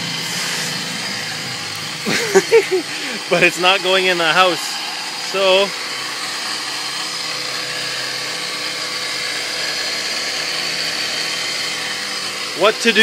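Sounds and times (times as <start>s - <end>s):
electric water pump humming: 0.0s - 13.0s.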